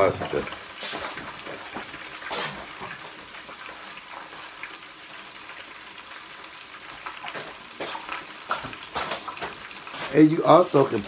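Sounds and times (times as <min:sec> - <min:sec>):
fish deep-frying in hot oil: 0:00.0 - 0:11.0
oil crackles: 0:00.0 - 0:11.0.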